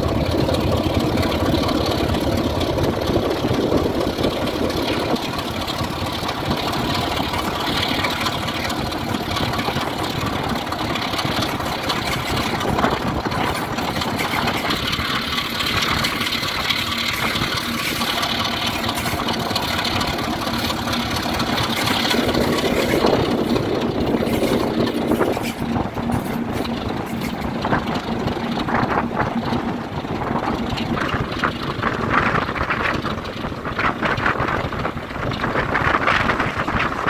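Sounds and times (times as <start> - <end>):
diesel locomotive engine running: 0.0 - 37.0
wheels rumbling on track: 0.0 - 37.0
wind gusts on microphone: 2.7 - 37.0.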